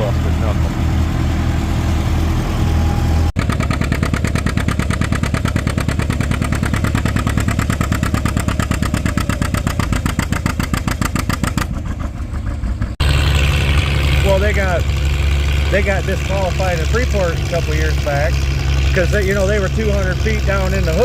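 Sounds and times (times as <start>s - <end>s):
tractor engine under load: 0.0s - 21.0s.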